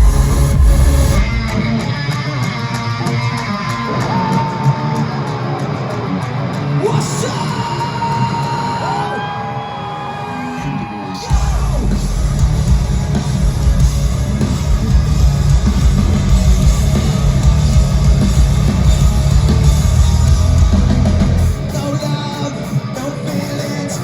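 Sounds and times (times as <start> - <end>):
light guitar: 0.0 - 8.9, 10.8 - 24.0
rock band playing: 0.0 - 24.0.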